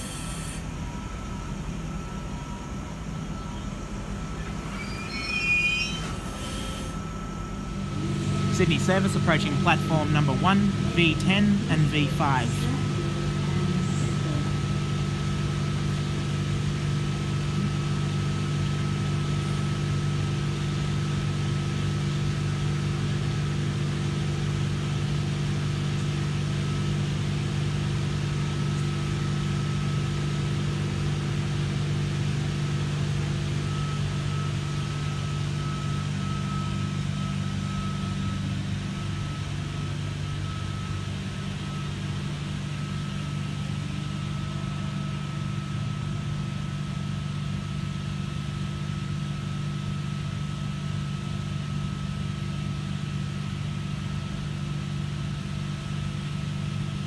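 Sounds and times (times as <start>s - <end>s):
electric train humming: 0.0s - 57.0s.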